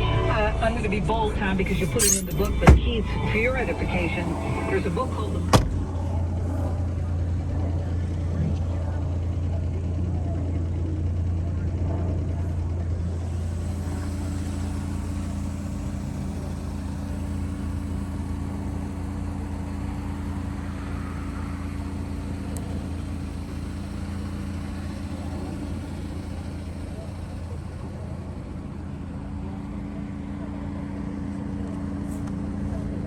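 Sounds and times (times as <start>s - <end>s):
road noise: 0.0s - 9.4s, 11.7s - 33.0s
small truck engine drone: 0.0s - 33.0s.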